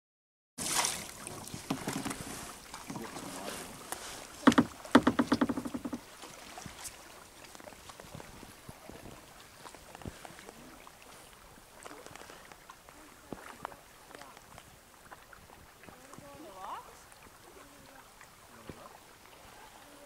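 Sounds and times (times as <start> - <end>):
paddle splashing: 0.6 - 20.0
water lapping against hull: 0.6 - 20.0.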